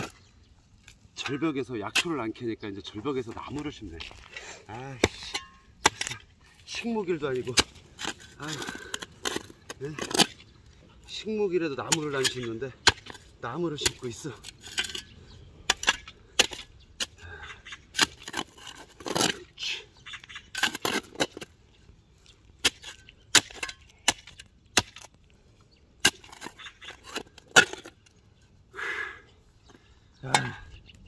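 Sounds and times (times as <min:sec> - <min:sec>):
shovel digging stony soil: 0:00.9 - 0:21.6, 0:22.5 - 0:25.2, 0:26.0 - 0:28.2.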